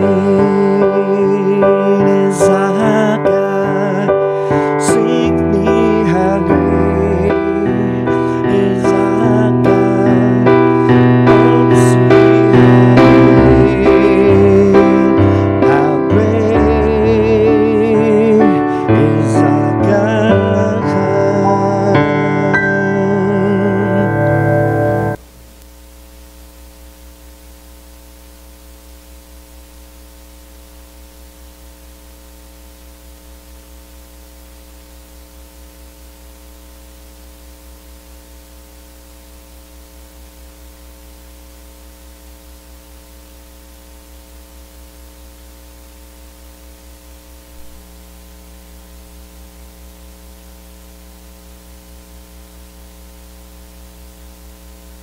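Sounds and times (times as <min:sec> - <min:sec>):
audio system hiss: 0:00.0 - 0:55.0
electrical mains hum: 0:00.0 - 0:55.0.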